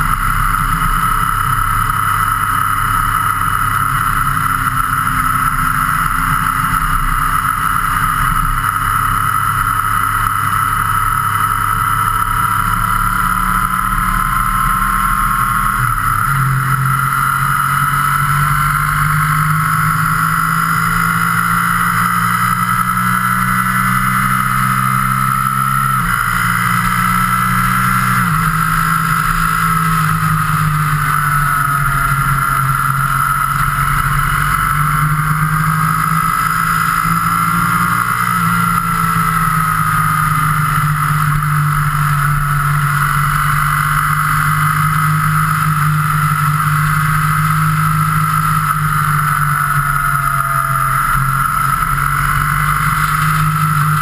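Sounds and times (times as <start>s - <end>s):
road and wind noise: 0.0s - 54.0s
vehicle engine drone: 0.0s - 54.0s.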